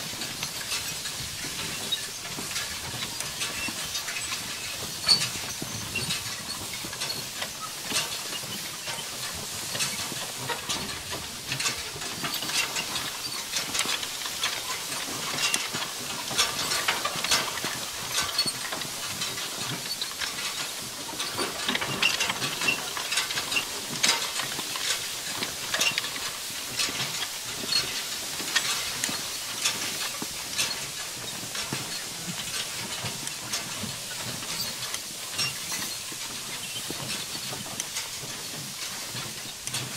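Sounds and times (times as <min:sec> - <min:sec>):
metal clatter of rake reel: 0:00.0 - 0:39.9.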